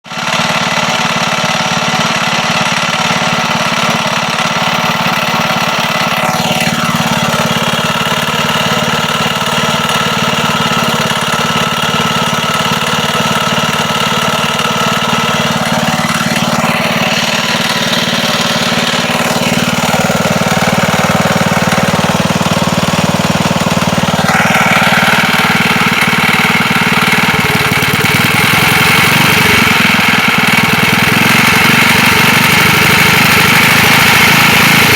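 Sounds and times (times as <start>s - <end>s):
engine running: 0.0s - 34.9s.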